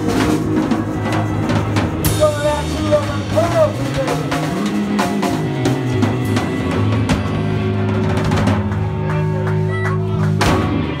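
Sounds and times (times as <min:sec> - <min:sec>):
drum kit with cymbal hits: 0:00.0 - 0:11.0
live band music: 0:00.0 - 0:11.0.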